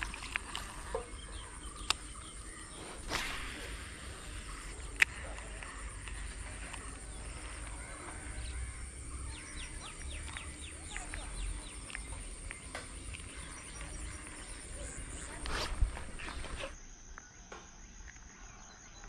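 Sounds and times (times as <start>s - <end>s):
birds calling: 0.0s - 16.8s.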